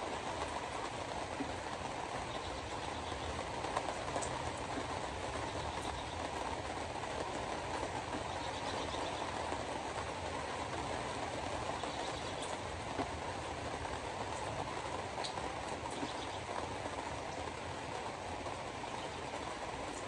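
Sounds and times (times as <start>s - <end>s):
tyres on wet road: 0.0s - 20.0s.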